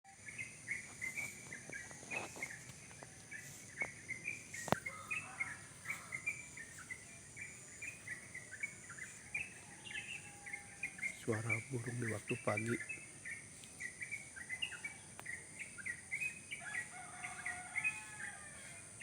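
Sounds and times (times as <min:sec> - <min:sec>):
songbirds chirping: 0:00.1 - 0:19.0.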